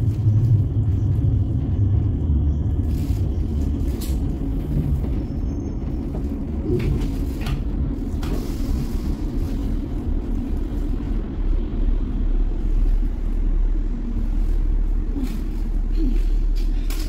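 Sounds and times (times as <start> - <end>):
low rumble inside tram: 0.0 - 17.0.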